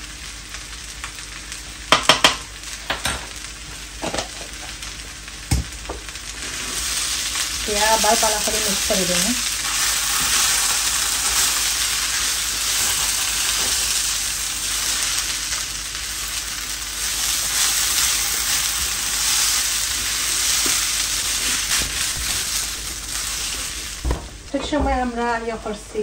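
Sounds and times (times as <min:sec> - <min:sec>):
food sizzling in oil: 0:00.0 - 0:25.2.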